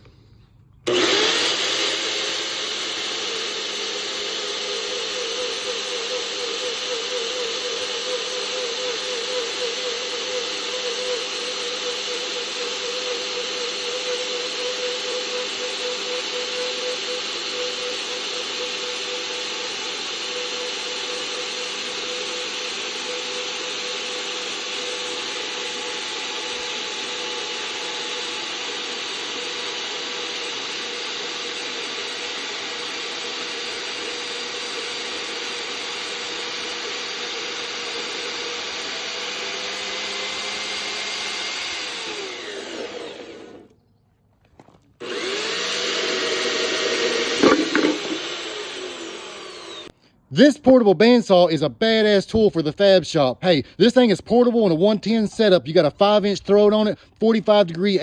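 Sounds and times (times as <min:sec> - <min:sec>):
motor whine and blade rasp: 0:00.0 - 0:43.8, 0:45.0 - 0:49.9
band saw cutting steel: 0:00.8 - 0:43.7, 0:45.0 - 0:50.0.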